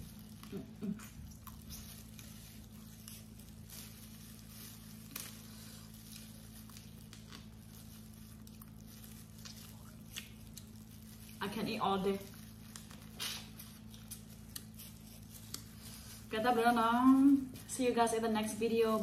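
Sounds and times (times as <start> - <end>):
soft chewing: 0.0 - 17.7
steady low hum: 0.0 - 19.0.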